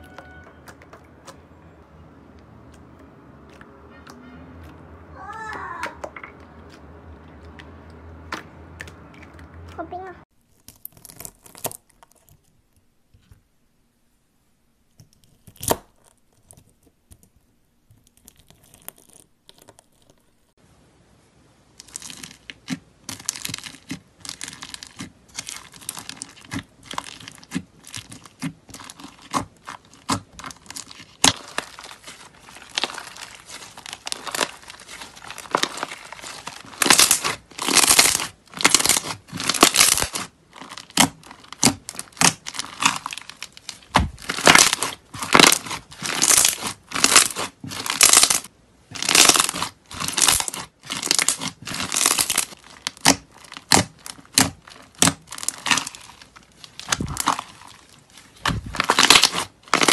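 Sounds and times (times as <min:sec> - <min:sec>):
slime squishing and crackling: 0:02.3 - 0:12.8, 0:14.9 - 0:20.5, 0:21.7 - 0:59.9.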